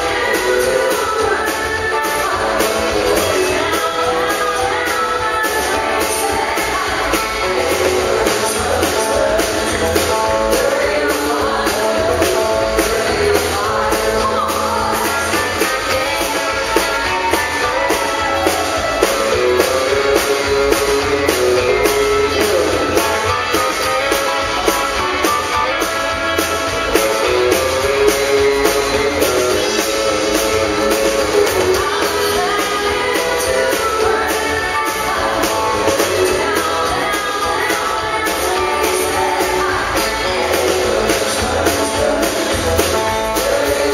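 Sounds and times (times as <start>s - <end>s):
country band playing: 0.0s - 43.9s
woman singing: 0.0s - 43.9s.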